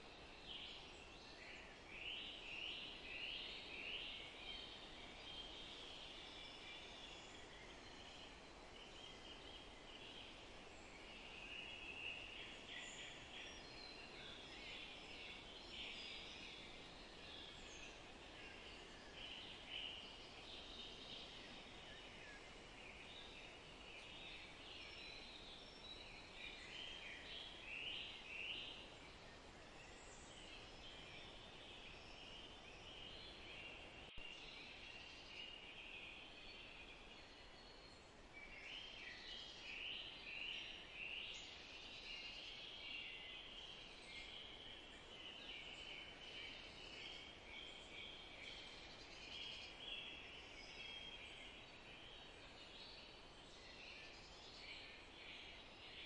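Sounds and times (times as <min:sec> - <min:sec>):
soft steady hiss: 0:00.0 - 0:56.0
songbirds chirping: 0:00.0 - 0:56.0.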